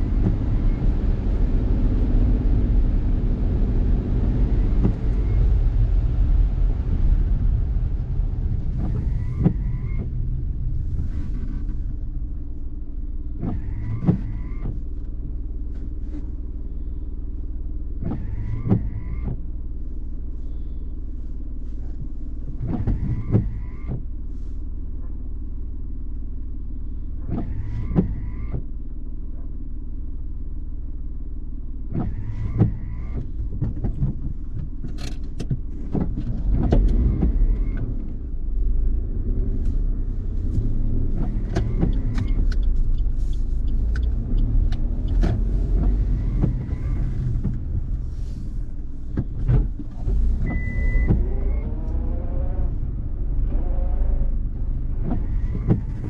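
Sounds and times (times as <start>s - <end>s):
windscreen wiper squeak and click: 0.0s - 2.1s, 4.1s - 5.8s, 8.4s - 16.6s, 17.9s - 25.2s, 27.1s - 28.8s, 31.9s - 56.0s
car cabin rumble: 0.0s - 56.0s.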